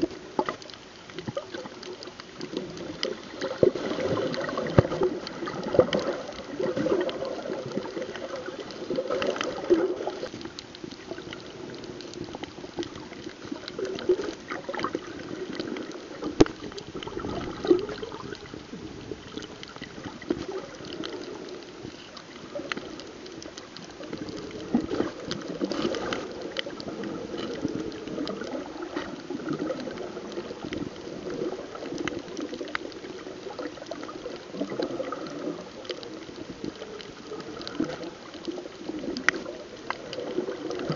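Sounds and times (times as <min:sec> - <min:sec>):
underwater sloshing and gurgling: 0:00.0 - 0:40.9.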